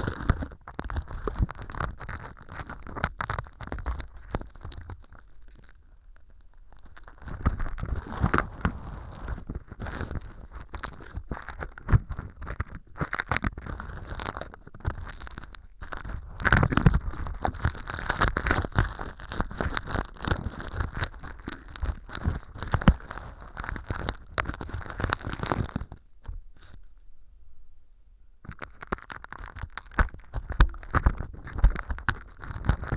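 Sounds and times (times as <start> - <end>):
earpick scraping and crunching: 0.0 - 26.9, 28.5 - 32.9.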